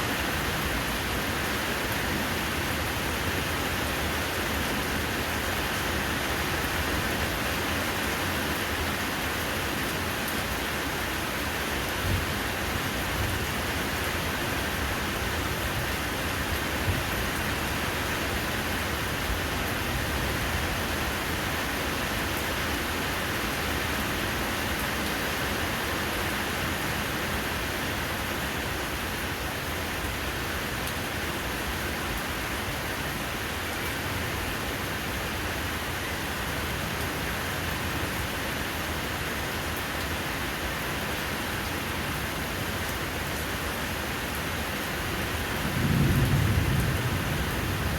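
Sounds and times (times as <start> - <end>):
steady rain pattering: 0.0 - 47.9.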